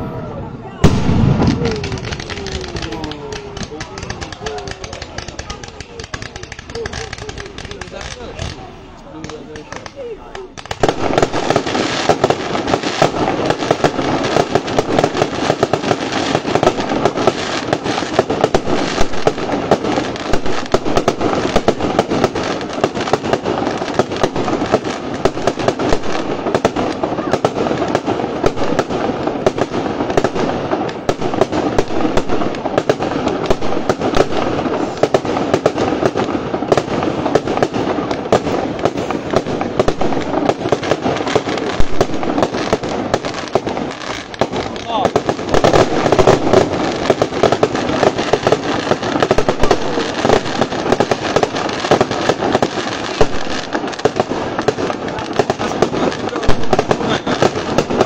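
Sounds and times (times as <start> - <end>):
fireworks crackling and popping: 0.0 - 58.0
loud firework bangs: 0.0 - 58.0.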